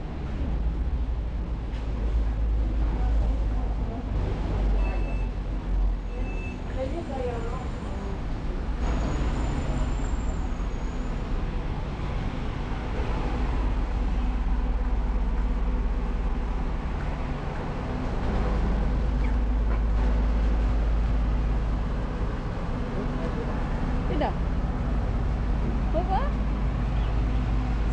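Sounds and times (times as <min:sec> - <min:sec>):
deep low rumble: 0:00.0 - 0:27.9
road traffic rumble: 0:00.0 - 0:27.9.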